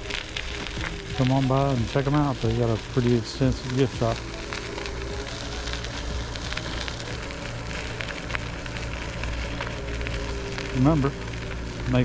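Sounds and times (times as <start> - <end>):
crackling tyre noise: 0.0 - 12.0
vehicle engine humming: 0.0 - 12.0.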